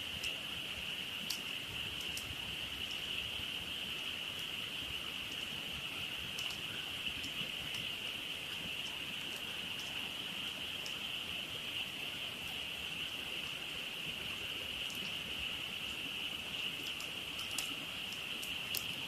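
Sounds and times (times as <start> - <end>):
campfire crackling: 0.0 - 19.0
frogs trilling: 0.0 - 19.0.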